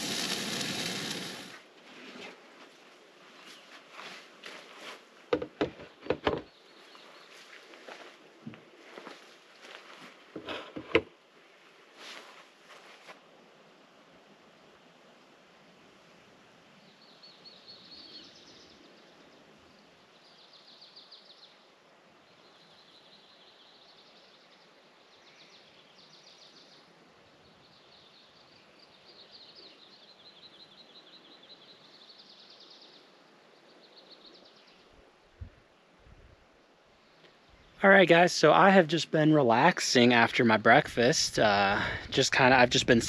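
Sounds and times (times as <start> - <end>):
soft outdoor hiss: 0.0 - 43.0.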